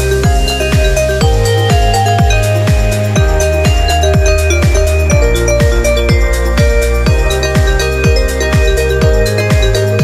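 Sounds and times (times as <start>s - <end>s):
kick drum: 0.0s - 10.0s
sustained synth chords: 0.0s - 10.0s.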